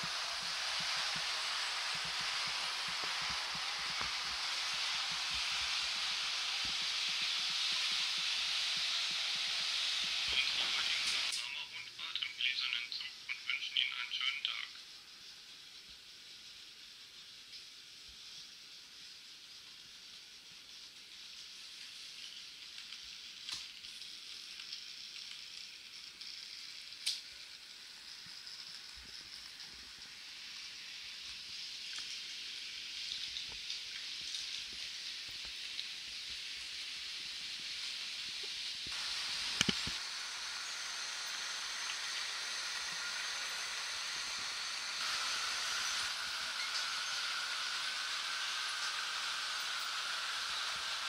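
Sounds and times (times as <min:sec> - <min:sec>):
model train wheels and motor hissing: 0:00.0 - 0:51.0.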